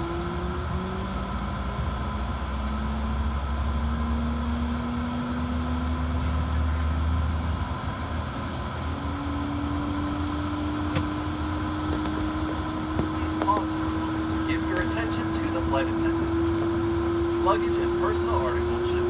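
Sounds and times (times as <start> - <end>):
jet engine rumble and whine: 0.0 - 19.0.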